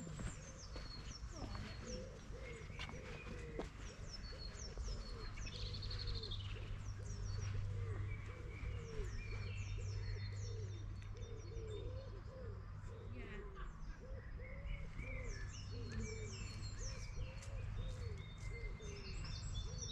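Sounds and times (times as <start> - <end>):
low repeated bird calls: 0.0 - 19.9.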